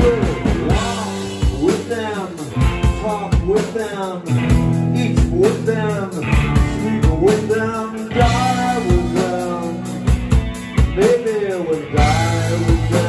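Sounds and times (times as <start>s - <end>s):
man singing: 0.0s - 10.2s, 10.8s - 13.0s
electric guitar: 0.0s - 13.0s.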